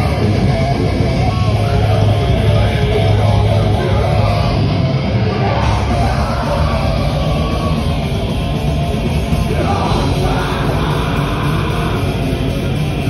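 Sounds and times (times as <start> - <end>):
electric guitar riff: 0.0 - 13.0
heavy bass: 0.0 - 13.0
punk band playing live: 0.0 - 13.0.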